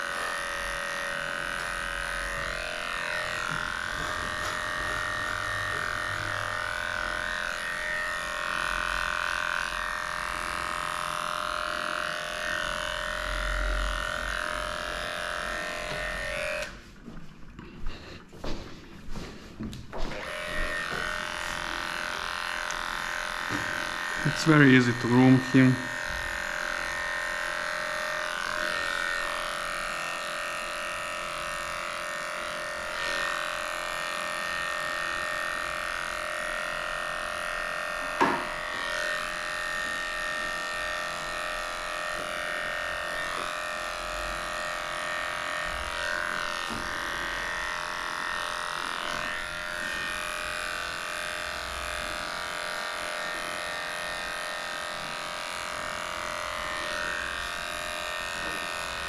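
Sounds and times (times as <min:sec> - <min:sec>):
electric clipper shaving fur: 0:00.0 - 0:18.6, 0:19.2 - 0:59.0.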